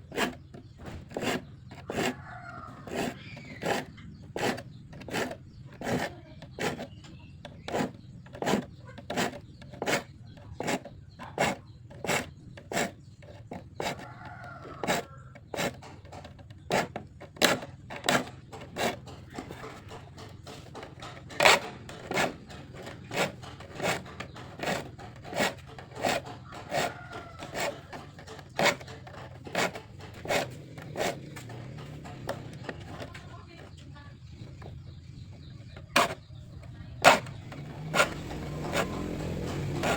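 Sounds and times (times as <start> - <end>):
metal file rasping on saw teeth: 0.0 - 39.9.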